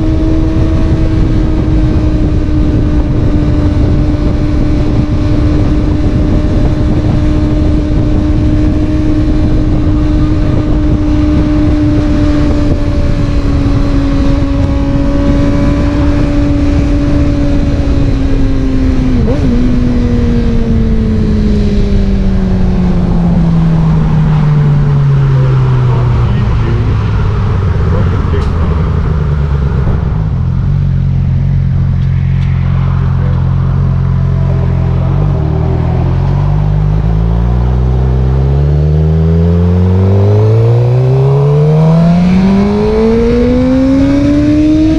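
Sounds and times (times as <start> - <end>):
motorcycle engine revving: 0.0 - 44.9
wind rushing: 0.0 - 44.9.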